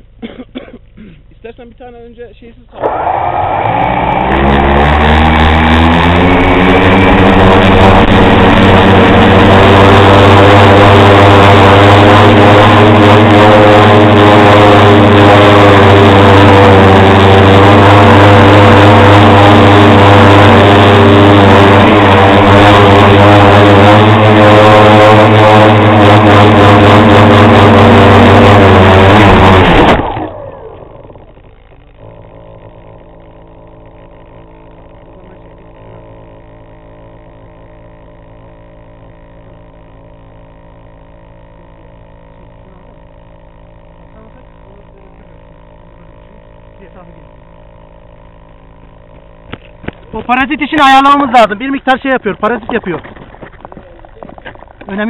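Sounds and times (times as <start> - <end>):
drone motors and propellers whining: 2.7 - 55.0.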